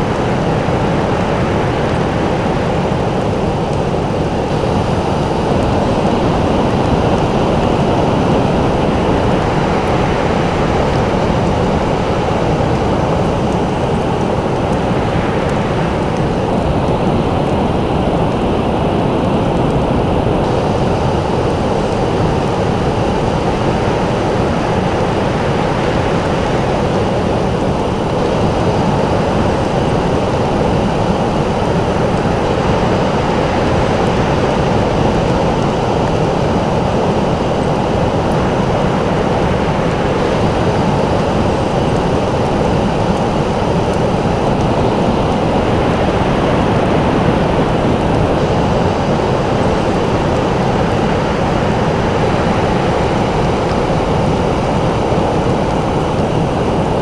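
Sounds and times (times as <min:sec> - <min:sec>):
ocean surf roaring: 0:00.0 - 0:57.0.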